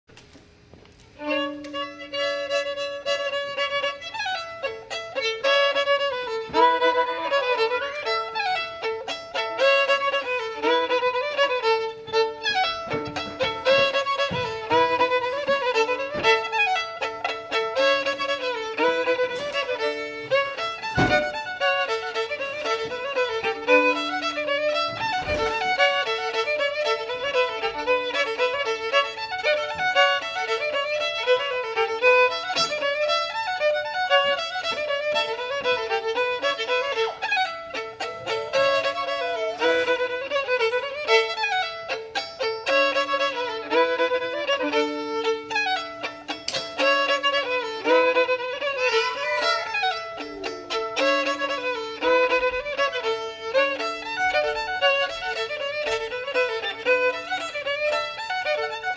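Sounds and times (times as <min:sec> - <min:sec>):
fiddle playing dance tune: 0:00.6 - 0:58.9.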